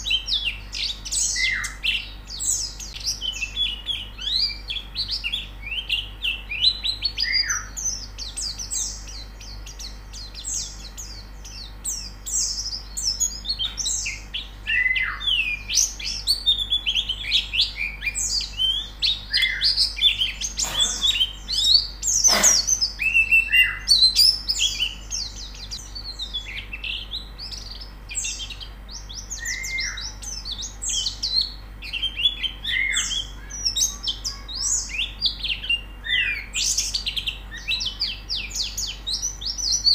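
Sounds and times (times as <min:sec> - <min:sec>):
birds twittering: 0:00.0 - 0:39.9
down-slurred bird calls: 0:00.0 - 0:39.9.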